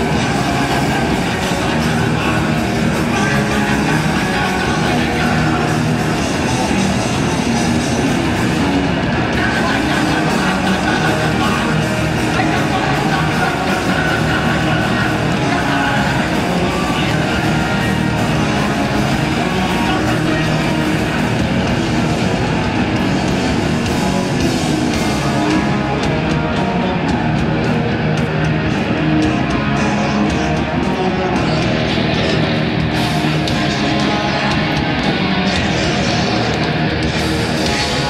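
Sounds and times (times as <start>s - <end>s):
punk band playing live: 0.0s - 38.0s.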